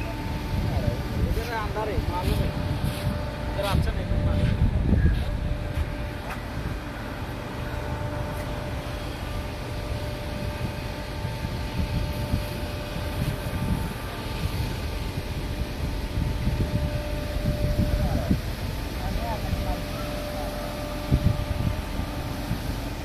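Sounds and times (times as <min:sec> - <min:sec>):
faint steady whine: 0:00.0 - 0:23.0
vehicle engine rumble: 0:00.0 - 0:23.0.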